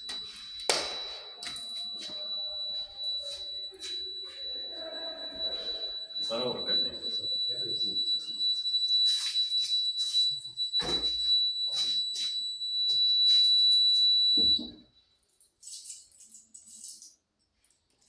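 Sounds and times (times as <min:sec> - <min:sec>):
fire alarm high-pitched tone: 0:00.0 - 0:15.2.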